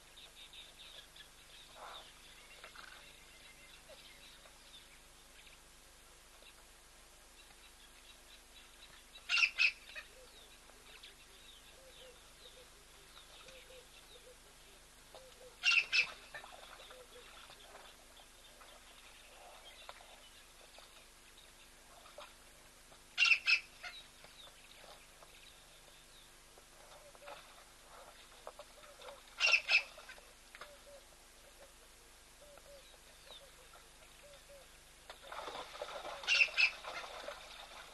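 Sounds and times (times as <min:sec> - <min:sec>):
faint bird chirping: 0:00.0 - 0:22.3, 0:23.2 - 0:34.8.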